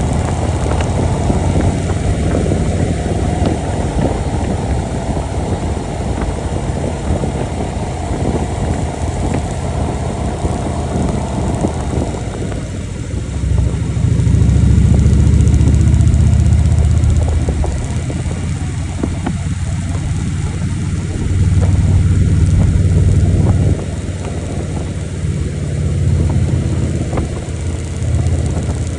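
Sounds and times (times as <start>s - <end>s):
motorcycle engine drone: 0.0s - 28.9s
wind noise: 0.0s - 28.9s.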